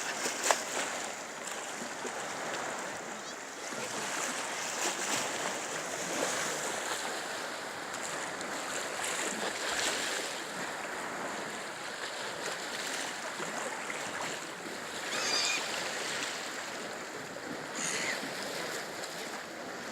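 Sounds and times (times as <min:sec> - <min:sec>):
waves washing in: 0:00.0 - 0:19.9.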